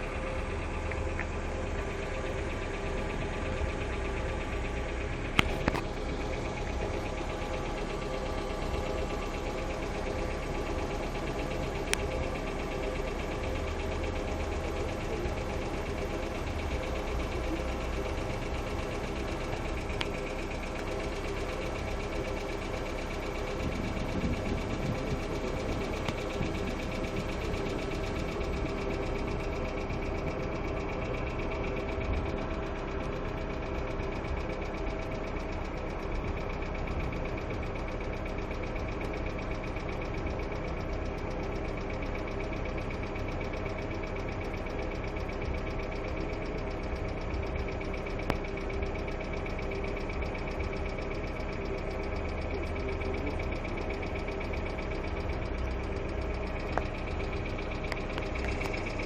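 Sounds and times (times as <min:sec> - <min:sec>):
car engine idling: 0:00.0 - 0:59.0
fast even engine ticking: 0:00.0 - 0:59.0.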